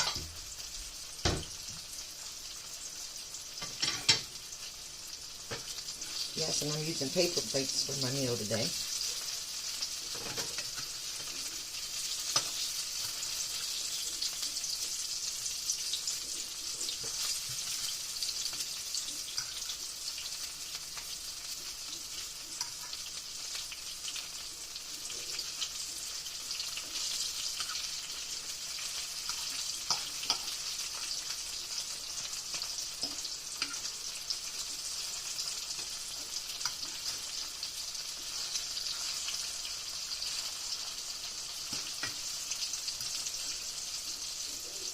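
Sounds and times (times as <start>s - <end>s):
tomatoes sizzling in hot oil: 0.0s - 44.9s.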